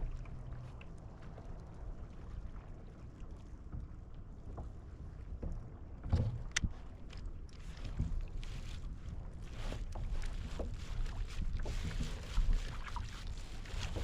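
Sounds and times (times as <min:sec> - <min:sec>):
water noise around kayak: 0:00.0 - 0:14.0
wind: 0:00.0 - 0:14.0.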